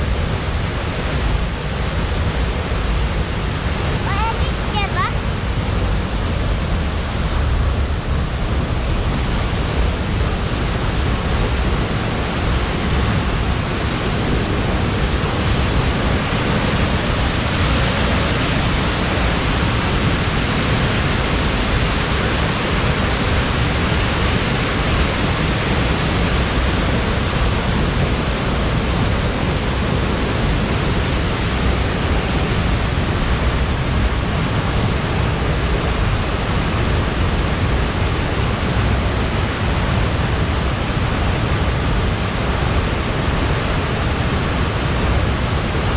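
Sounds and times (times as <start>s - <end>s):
waterfall crashing: 0.0s - 45.9s.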